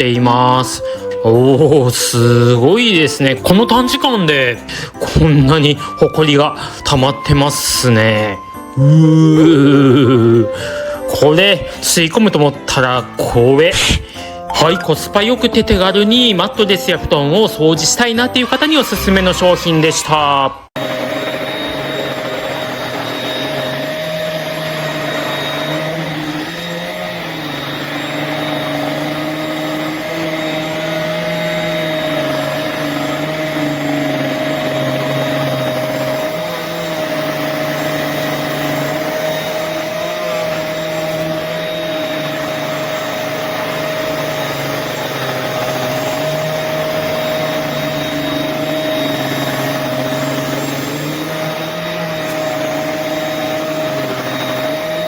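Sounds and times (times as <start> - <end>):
cleaner motor hum and whine: 0.0 - 55.0.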